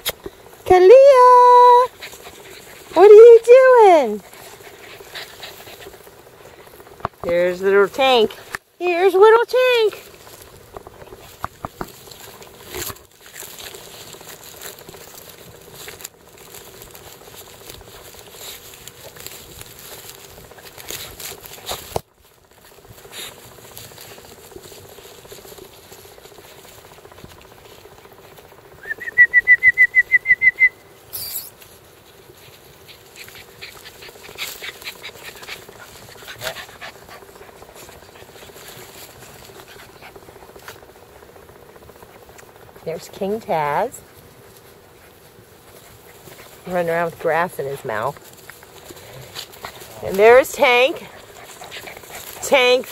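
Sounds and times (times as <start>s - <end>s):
puppy panting and snuffling: 0.0s - 29.2s, 31.1s - 52.9s
dry leaf crinkling: 0.3s - 52.9s.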